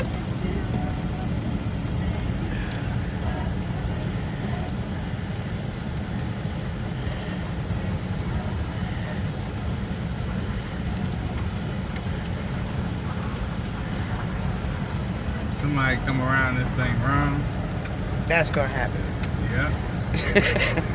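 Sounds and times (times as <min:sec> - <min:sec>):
car driving heard from cabin: 0:00.0 - 0:20.9.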